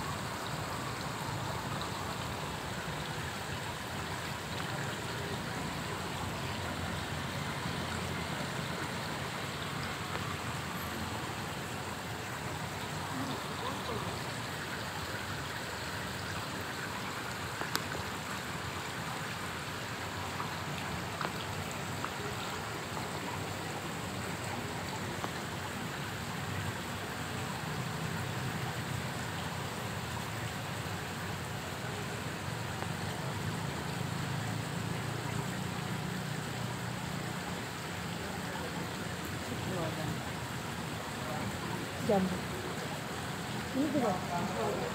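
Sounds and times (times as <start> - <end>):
pond water running and splashing: 0.0 - 44.9.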